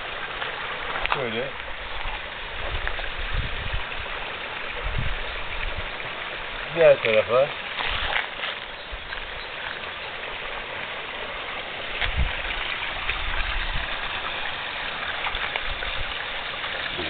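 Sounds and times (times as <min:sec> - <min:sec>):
running water hiss: 0:00.0 - 0:17.0.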